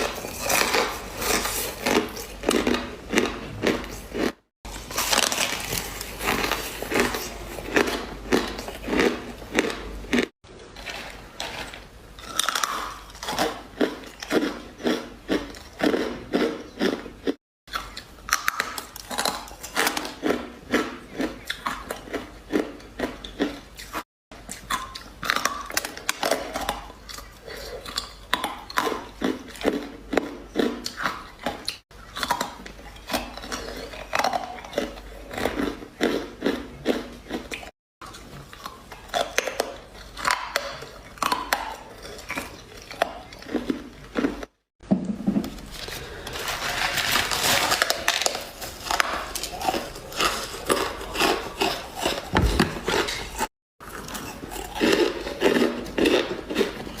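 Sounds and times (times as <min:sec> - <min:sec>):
ice being chewed: 0:00.0 - 0:44.7, 0:45.7 - 0:57.0.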